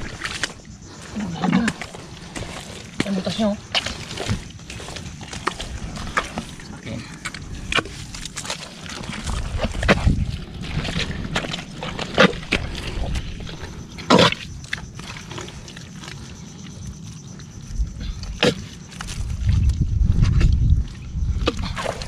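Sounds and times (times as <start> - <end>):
muddy water sloshing and splashing: 0.0 - 22.0.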